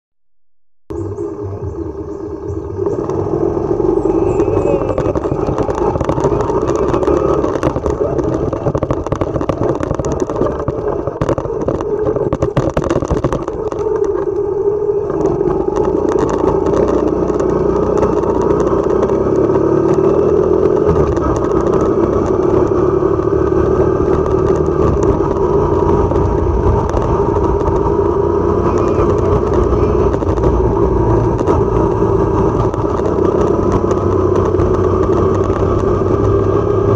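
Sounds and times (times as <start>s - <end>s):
motorcycle engine running: 0.9s - 36.9s
rattling: 2.8s - 36.9s.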